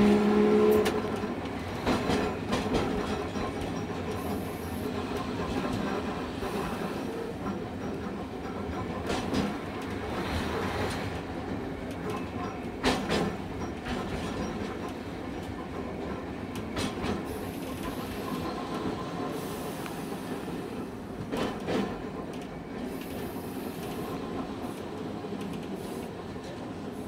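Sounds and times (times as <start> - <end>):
streetcar rumbling along track: 0.0 - 27.0.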